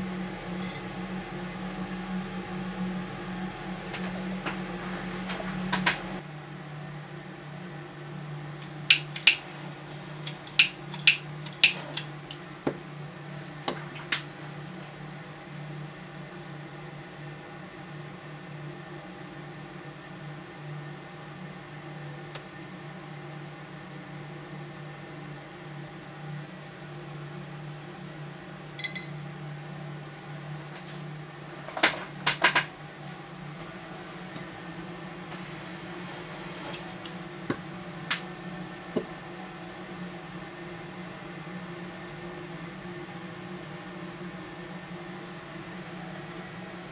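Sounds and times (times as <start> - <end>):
extractor fan hum: 0.0 - 46.9.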